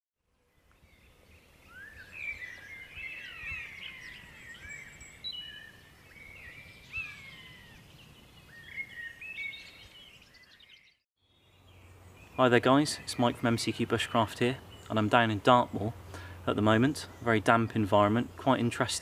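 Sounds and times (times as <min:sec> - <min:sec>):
birds chirping and warbling: 0:00.4 - 0:19.0.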